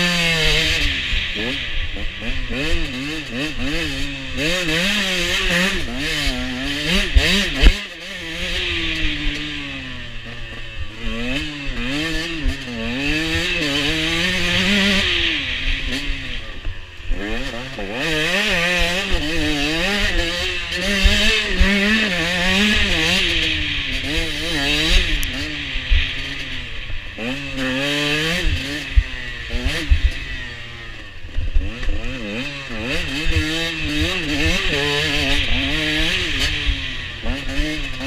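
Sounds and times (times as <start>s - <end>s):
two-stroke motorcycle engine revving: 0.0s - 38.0s.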